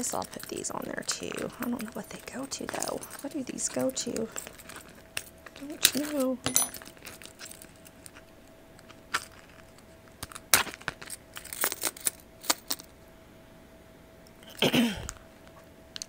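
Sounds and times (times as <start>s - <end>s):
metal keys clinking: 0.0s - 12.9s.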